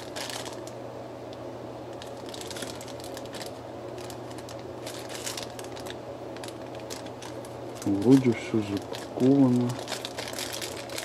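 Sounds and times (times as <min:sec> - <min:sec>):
plastic bag crinkling: 0:00.0 - 0:00.8, 0:01.9 - 0:11.0.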